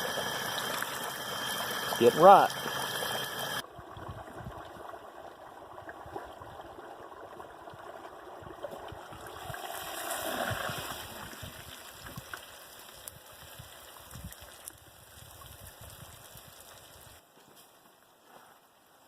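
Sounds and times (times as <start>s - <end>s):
oil bubbling and sizzling: 0.0s - 17.2s.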